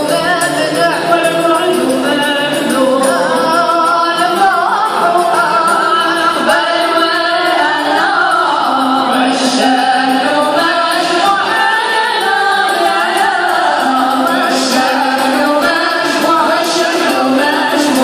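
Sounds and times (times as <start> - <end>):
voices singing: 0.0 - 18.0.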